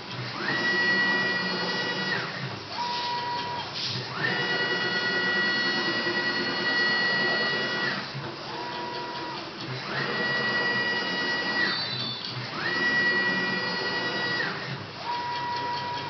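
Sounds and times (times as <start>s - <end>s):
milling machine motors whining: 0.0s - 16.0s.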